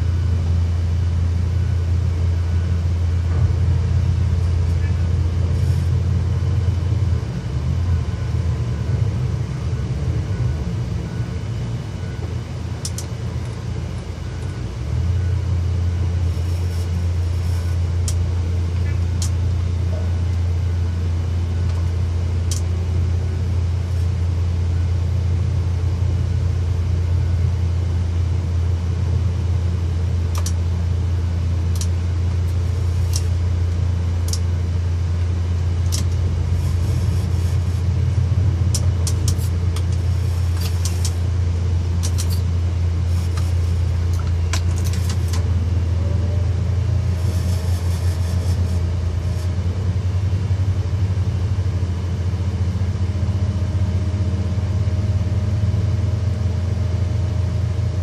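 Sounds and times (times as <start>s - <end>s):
crane machinery drone: 0.0s - 58.0s.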